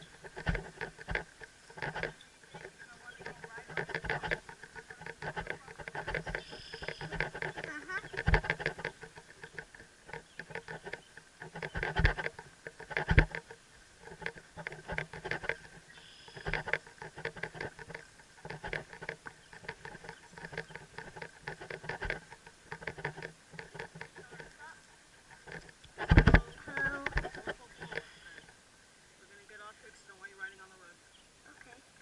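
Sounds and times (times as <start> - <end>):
helmet camera rattling and clicking: 0.0 - 28.6.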